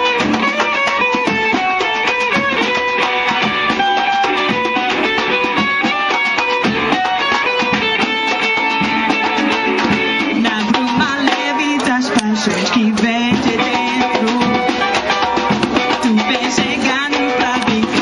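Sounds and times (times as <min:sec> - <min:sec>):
plucked guitar music: 0:00.0 - 0:18.0.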